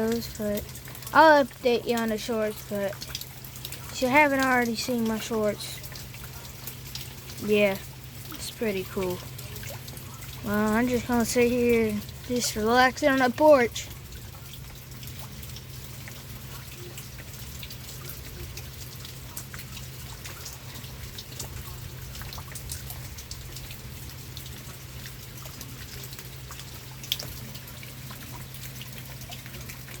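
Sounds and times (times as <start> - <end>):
low steady hum: 0.0 - 30.0
raindrops tapping: 0.0 - 30.0
steady rain: 0.0 - 30.0.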